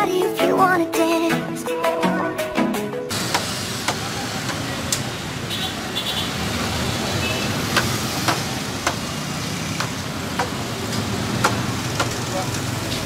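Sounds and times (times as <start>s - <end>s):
street noise: 1.5s - 13.0s.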